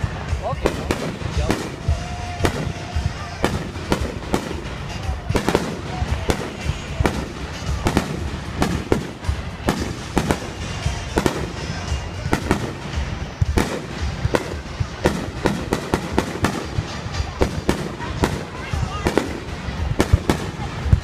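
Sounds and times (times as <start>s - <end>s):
fireworks bangs and pops: 0.0s - 21.0s
fireworks crackling: 0.0s - 21.0s.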